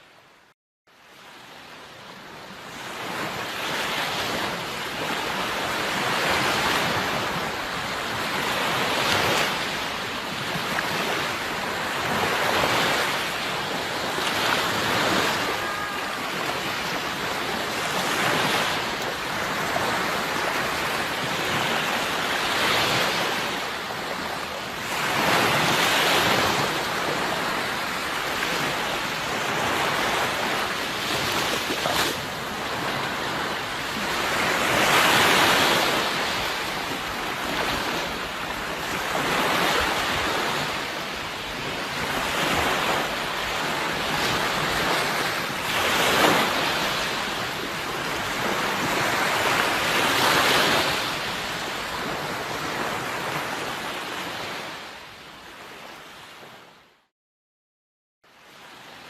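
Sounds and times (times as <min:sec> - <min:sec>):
sea waves breaking: 0:01.1 - 0:56.6.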